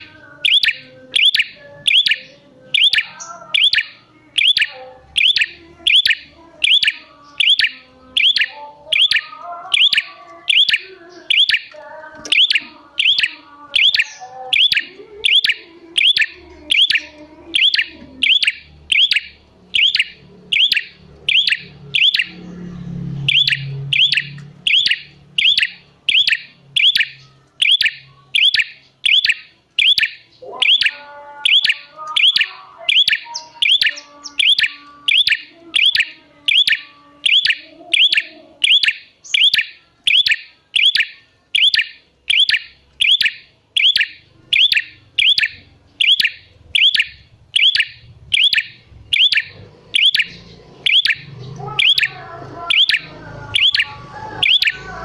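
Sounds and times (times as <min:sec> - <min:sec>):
soft low chirping: 0:00.0 - 0:55.0.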